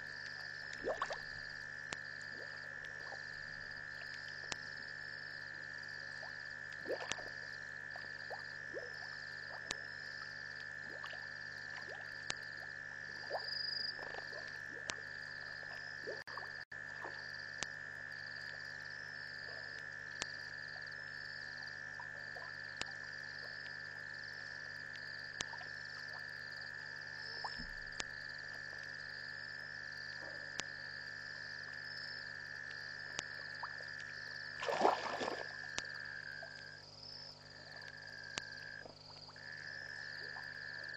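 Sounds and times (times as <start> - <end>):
frogs and insects trilling: 0.0 - 40.9.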